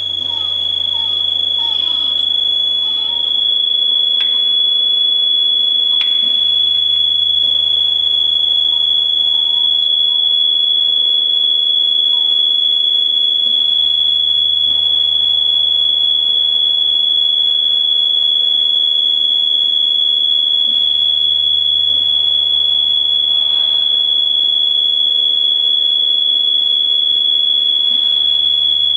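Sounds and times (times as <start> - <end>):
high-pitched electronic alarm tone: 0.0 - 28.9.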